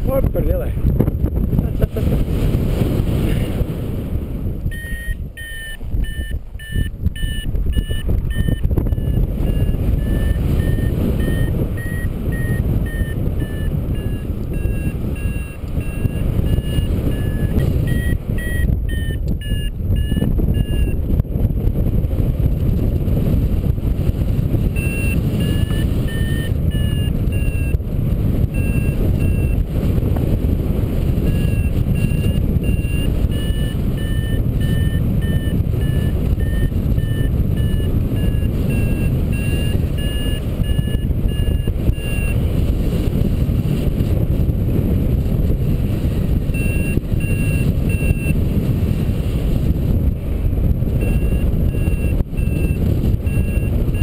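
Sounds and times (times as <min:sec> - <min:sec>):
wind noise on microphone: 0:00.0 - 0:54.0
variometer beeping: 0:04.5 - 0:21.3, 0:22.7 - 0:44.1, 0:45.9 - 0:49.7, 0:50.6 - 0:54.0.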